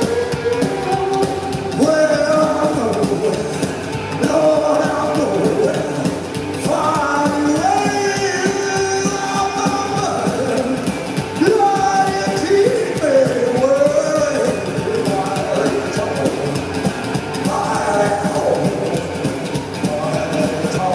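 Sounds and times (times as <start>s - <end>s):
live rock and roll band: 0.0s - 20.9s
sliding lead guitar line: 0.0s - 20.9s.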